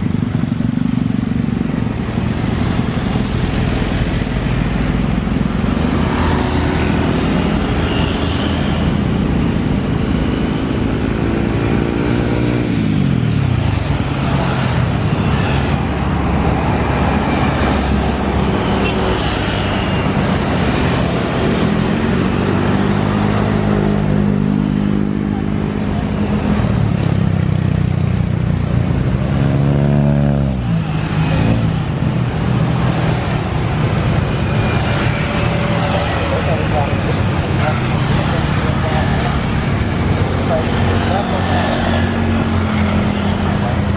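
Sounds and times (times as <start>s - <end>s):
traffic engine noise: 0.0s - 43.9s
vehicles passing by: 0.0s - 43.9s.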